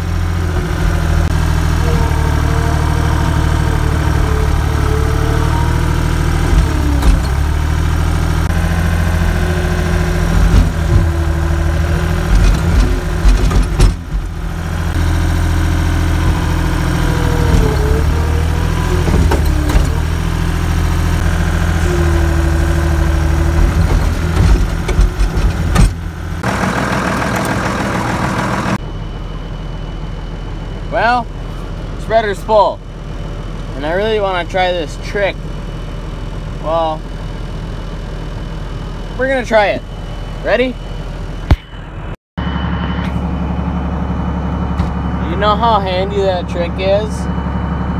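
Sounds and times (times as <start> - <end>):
skid steer engine running: 0.0 - 47.9.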